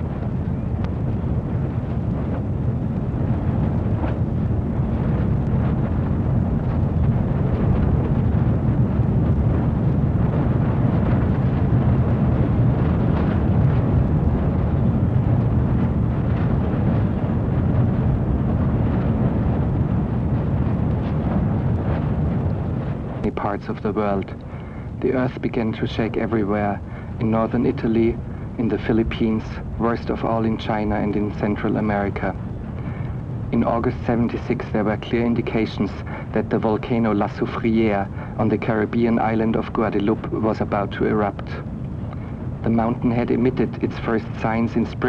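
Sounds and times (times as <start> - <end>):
loud steady low rumble: 0.0 - 45.0.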